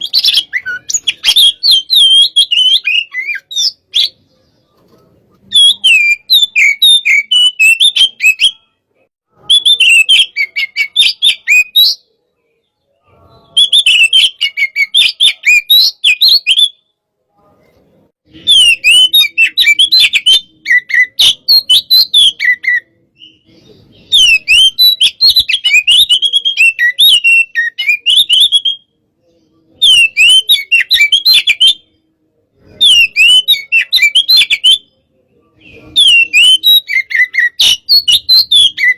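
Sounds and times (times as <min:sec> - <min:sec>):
bird singing whistled phrases: 0:00.0 - 0:04.4, 0:05.4 - 0:08.8, 0:09.4 - 0:12.1, 0:13.1 - 0:16.8, 0:18.4 - 0:32.0, 0:32.7 - 0:38.9.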